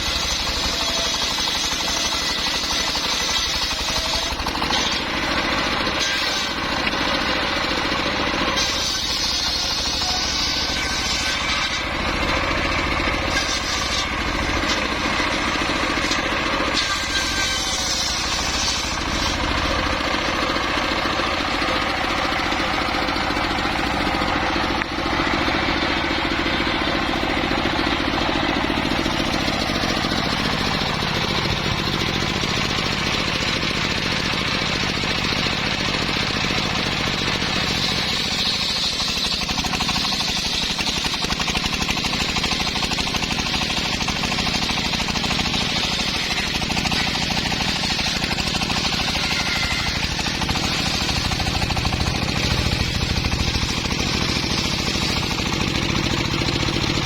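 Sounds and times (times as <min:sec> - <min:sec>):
engine-driven saw cutting timber: 0:00.0 - 0:57.0.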